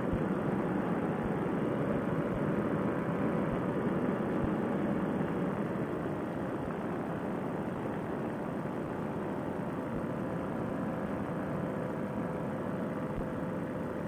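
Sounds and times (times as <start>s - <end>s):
paramotor engine and propeller drone: 0.0s - 14.0s.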